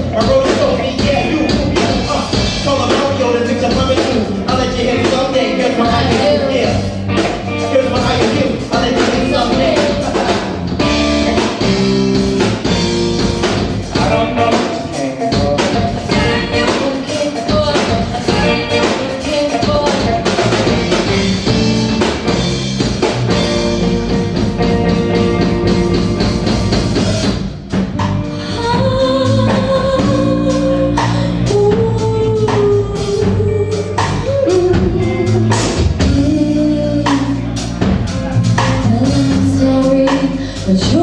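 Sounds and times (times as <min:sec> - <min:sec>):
person singing: 0:00.0 - 0:22.4, 0:28.2 - 0:41.0
drums: 0:00.0 - 0:41.0
live band playing: 0:00.0 - 0:41.0.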